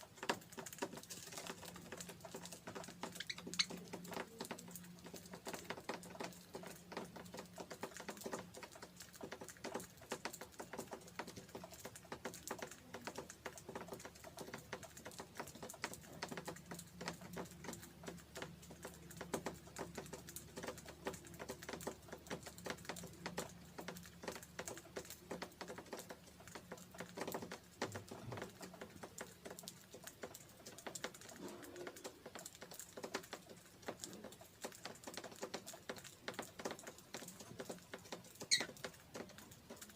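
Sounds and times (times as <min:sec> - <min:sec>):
birds cracking seeds: 0:00.0 - 0:39.9.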